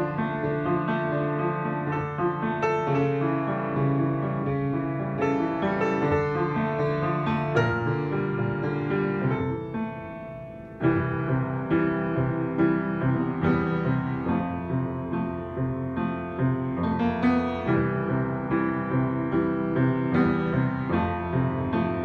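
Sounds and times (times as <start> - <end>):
upright piano playing: 0.0 - 22.0.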